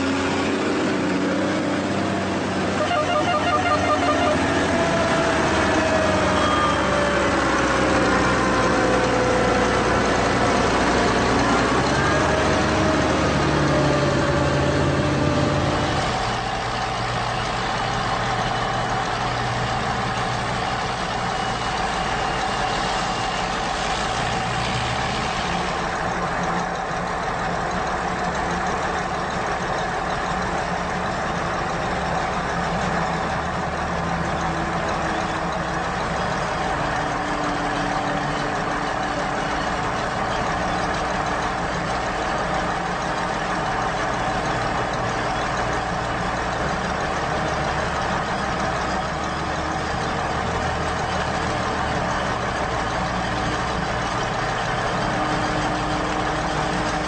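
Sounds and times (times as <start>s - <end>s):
large engine running steadily: 0.0s - 57.0s.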